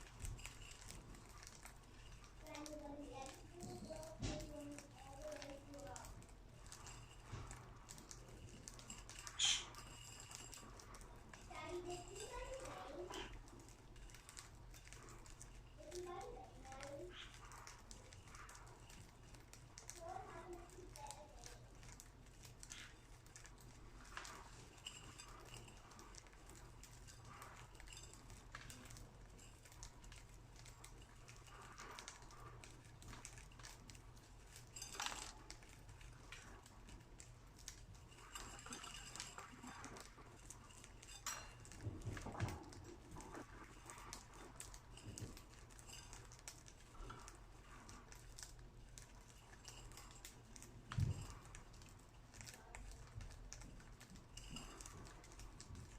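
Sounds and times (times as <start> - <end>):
beaks tapping on seeds: 0.0 - 55.9.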